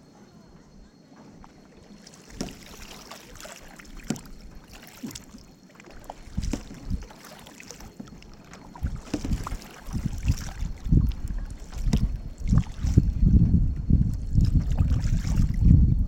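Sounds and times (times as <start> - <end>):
paddle splashing in water: 1.1 - 15.7.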